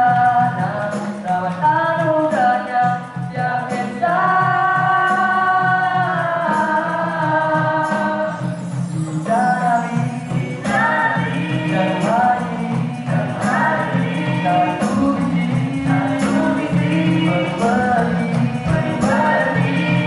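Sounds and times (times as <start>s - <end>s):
boys singing in harmony: 0.0s - 20.0s
drums keeping a steady beat: 0.0s - 20.0s.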